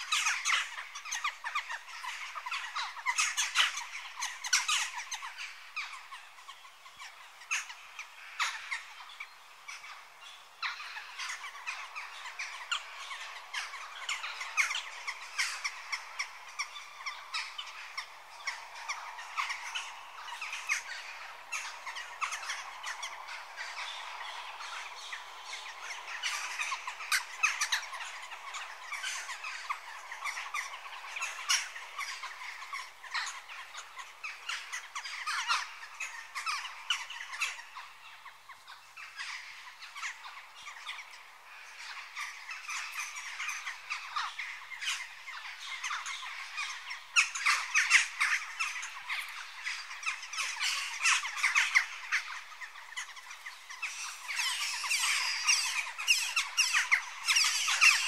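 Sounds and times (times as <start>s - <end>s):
jackdaws calling: 0.0s - 58.0s.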